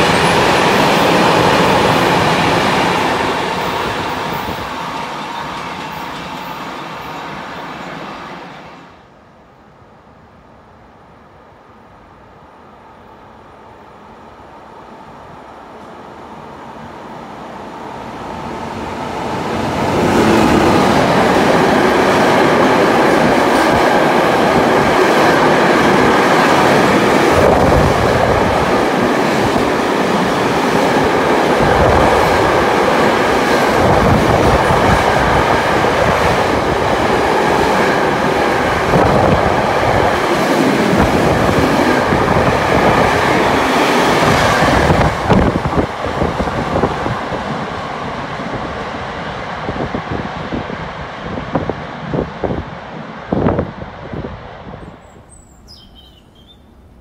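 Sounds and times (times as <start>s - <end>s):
freight train wheels on rail: 0.0s - 9.2s, 12.8s - 57.0s.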